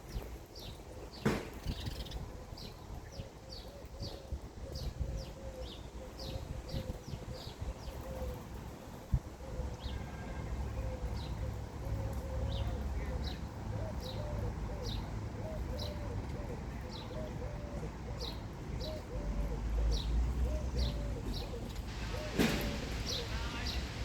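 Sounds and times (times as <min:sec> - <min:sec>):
pigeons cooing: 0:01.0 - 0:24.0.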